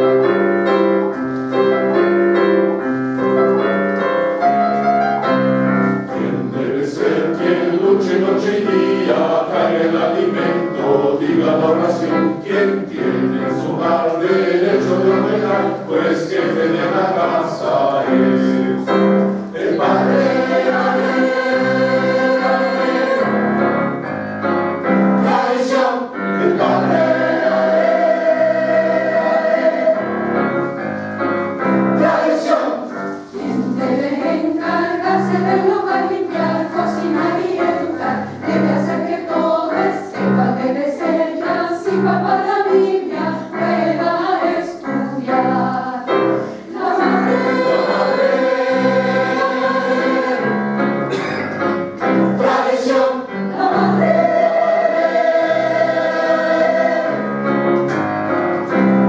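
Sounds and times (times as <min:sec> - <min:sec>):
piano: 0:00.0 - 0:59.0
mixed choir singing in harmony: 0:05.3 - 0:59.0.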